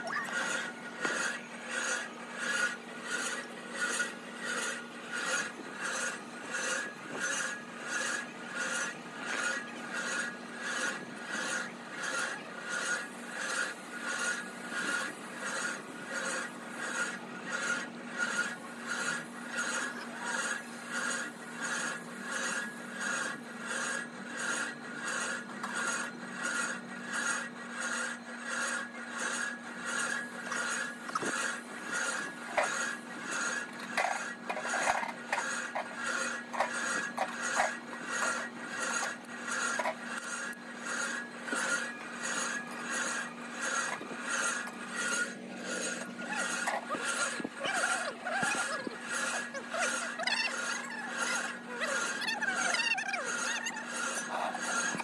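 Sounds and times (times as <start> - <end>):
rhythmic rasping: 0.0 - 55.0.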